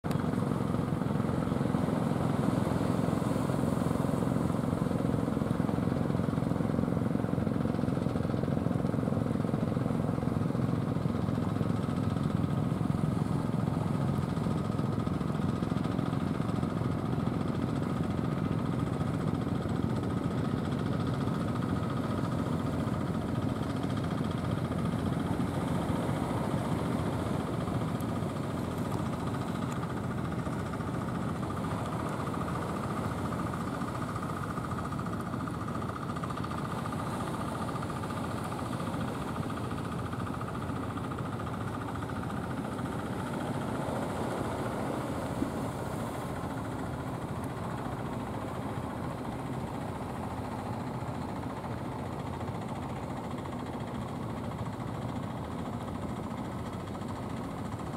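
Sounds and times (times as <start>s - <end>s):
boat engine running: 0.0s - 57.9s.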